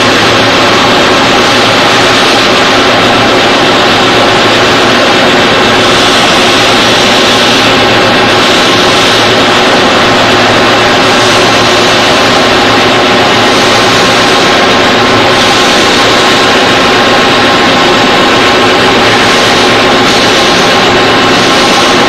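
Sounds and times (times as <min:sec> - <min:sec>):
boring mill droning with whine: 0:00.0 - 0:22.0.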